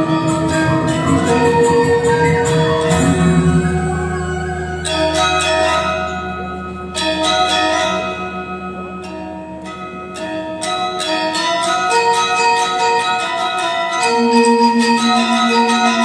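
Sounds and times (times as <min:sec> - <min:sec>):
gamelan ensemble playing: 0:00.0 - 0:16.0.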